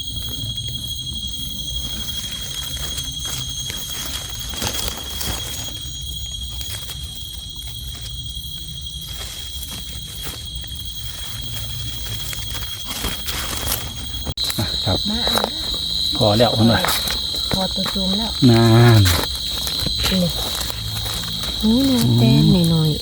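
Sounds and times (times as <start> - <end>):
cricket trilling: 0.0 - 23.0.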